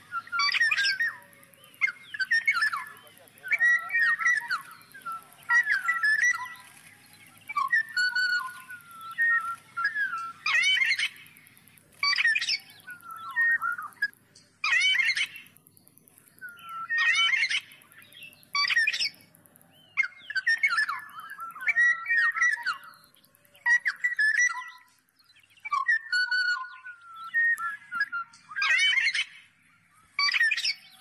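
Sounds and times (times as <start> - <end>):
oriole calling: 0.0 - 24.9.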